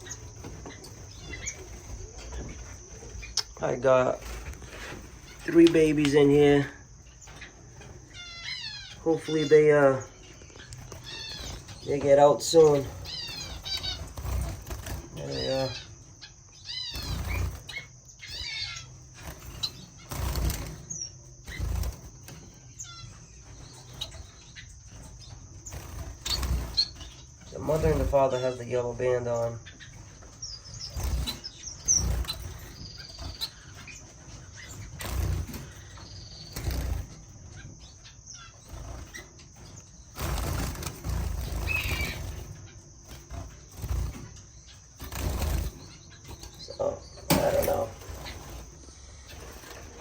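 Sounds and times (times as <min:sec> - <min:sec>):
birds rustling in cage: 0:00.0 - 0:50.0
finches chirping: 0:00.0 - 0:50.0
wings fluttering: 0:00.0 - 0:50.0.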